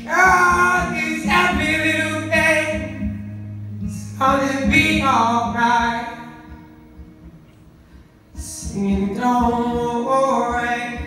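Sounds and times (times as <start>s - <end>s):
young man singing: 0.0s - 6.6s, 8.4s - 11.0s
acoustic guitar: 0.0s - 11.0s.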